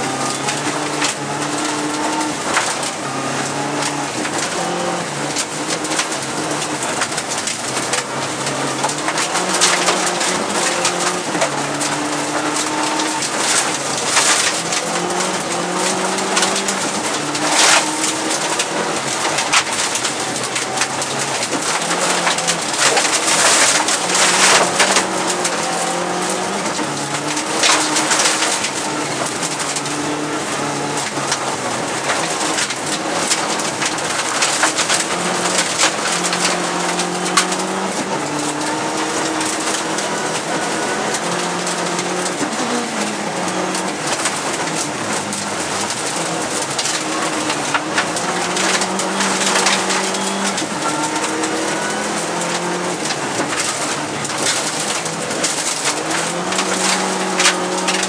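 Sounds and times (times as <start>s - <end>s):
car engine revving: 0.0s - 58.0s
gravel rattling against car underside: 0.0s - 58.0s.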